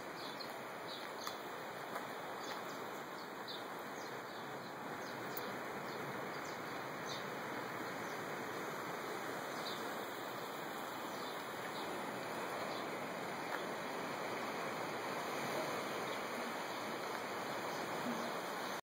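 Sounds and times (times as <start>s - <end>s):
ocean surf breaking: 0.0s - 18.8s.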